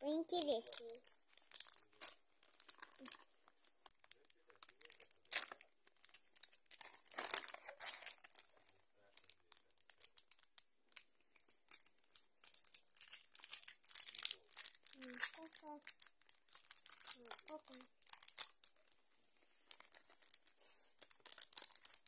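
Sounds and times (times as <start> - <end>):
plastic wrapping crinkling: 0.1 - 22.0.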